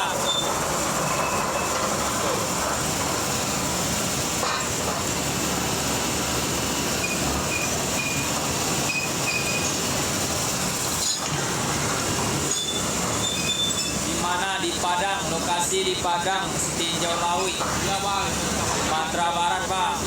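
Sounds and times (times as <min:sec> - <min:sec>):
heavy machinery engine noise: 0:00.0 - 0:20.0.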